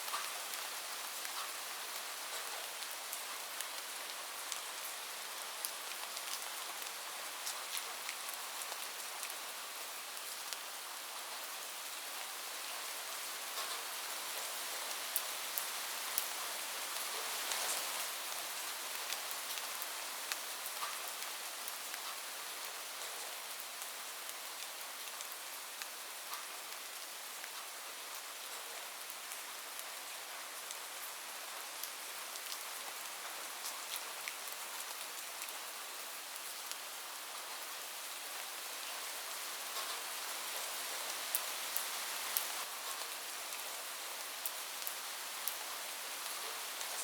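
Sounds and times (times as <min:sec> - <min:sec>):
heavy rain on a roof: 0:00.0 - 0:47.0.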